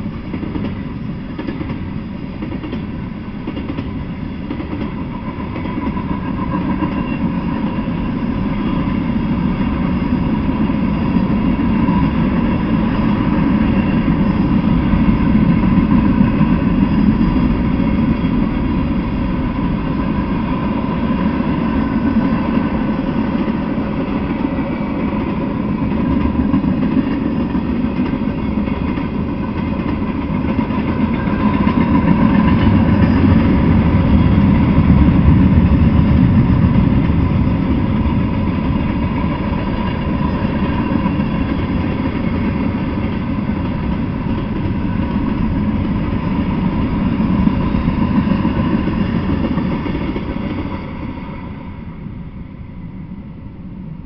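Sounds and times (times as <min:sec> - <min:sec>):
freight train wheels clattering: 0:00.0 - 0:52.4.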